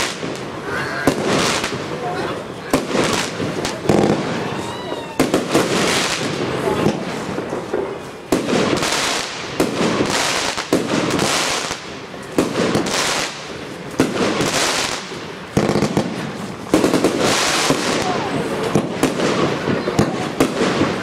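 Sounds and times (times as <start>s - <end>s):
firework bangs: 0.0s - 21.0s
hissing spray of bursting stars: 0.0s - 21.0s.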